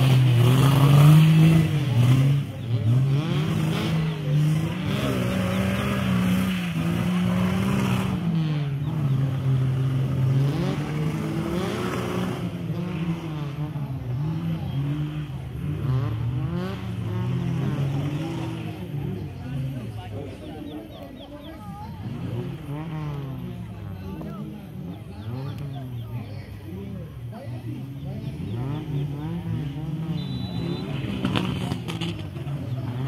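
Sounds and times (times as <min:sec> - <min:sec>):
vehicle engine revving: 0:00.0 - 0:33.0.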